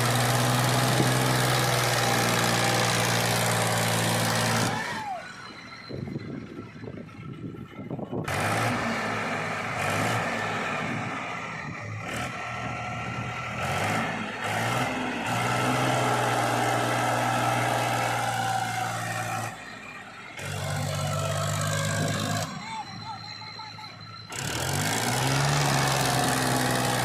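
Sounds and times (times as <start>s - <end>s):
heavy machinery diesel engine: 0.0s - 27.0s.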